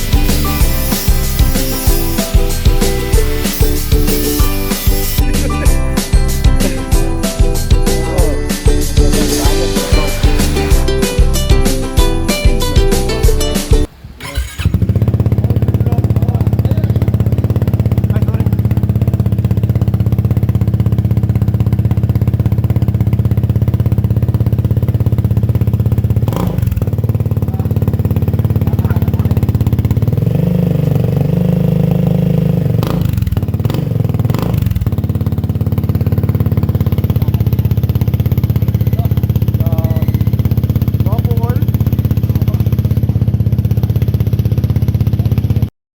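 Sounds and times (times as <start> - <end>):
scooter engine idling and revving: 0.0 - 45.8.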